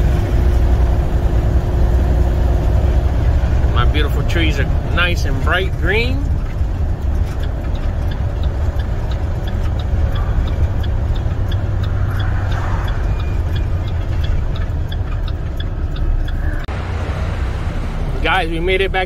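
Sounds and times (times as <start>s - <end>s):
light regular ticking: 0.0s - 16.8s
road noise: 0.0s - 19.0s
truck diesel engine rumble: 0.0s - 19.0s.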